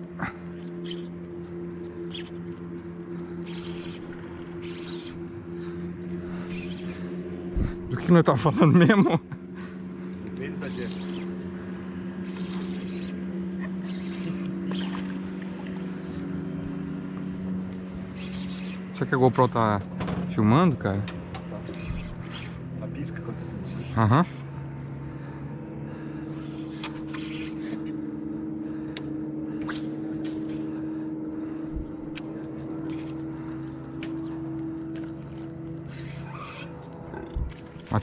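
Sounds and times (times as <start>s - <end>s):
boat motor humming: 0.0s - 38.0s.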